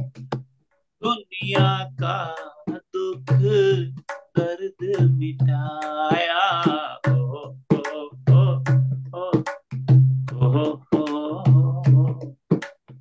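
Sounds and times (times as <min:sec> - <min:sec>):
tabla strokes: 0:00.0 - 0:13.0
man singing devotional song: 0:01.0 - 0:09.7, 0:10.3 - 0:12.5.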